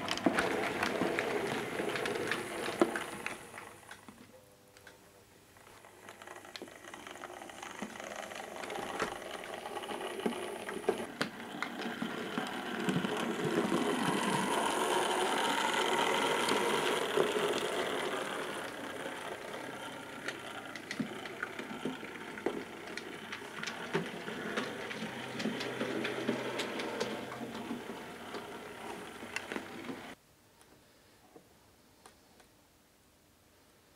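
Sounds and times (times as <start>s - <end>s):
model train motor whirring: 0.0s - 4.0s, 5.6s - 30.2s
wheel clicks over rail joints: 0.0s - 4.2s, 5.6s - 30.2s.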